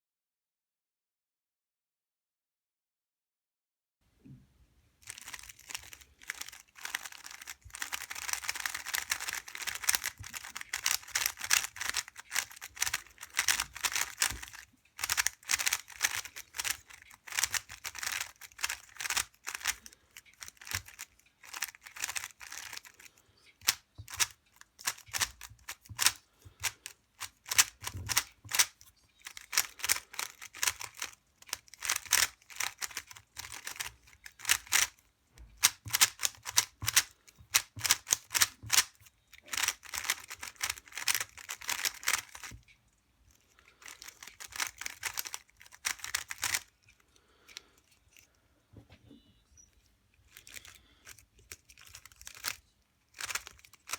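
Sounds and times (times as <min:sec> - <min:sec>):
puzzle cube clicking: 0:05.0 - 0:35.0, 0:35.6 - 0:42.7, 0:43.4 - 0:47.6, 0:50.3 - 0:53.9.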